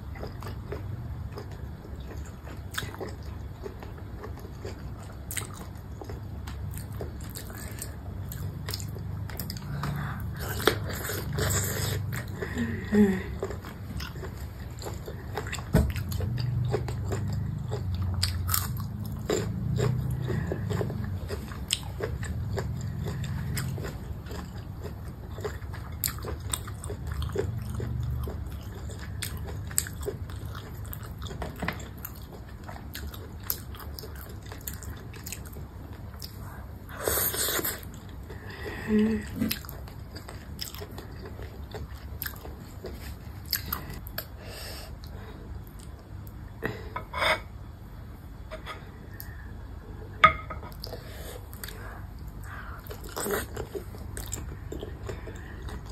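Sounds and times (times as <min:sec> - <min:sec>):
person chewing with wet clicks: 0:00.0 - 0:12.6, 0:13.3 - 0:36.6, 0:39.4 - 0:44.4, 0:50.7 - 0:55.9.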